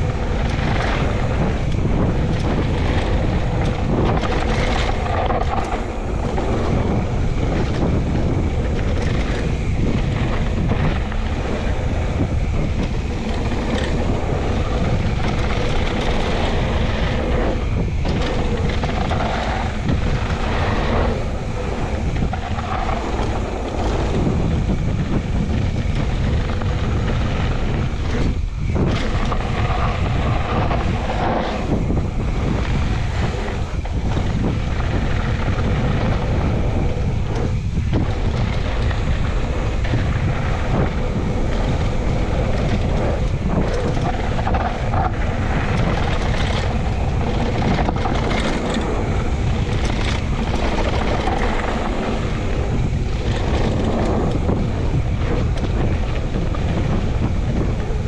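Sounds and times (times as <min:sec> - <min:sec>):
bike rumbling over ground: 0:00.0 - 0:58.0
wind buffeting microphone: 0:00.0 - 0:58.0.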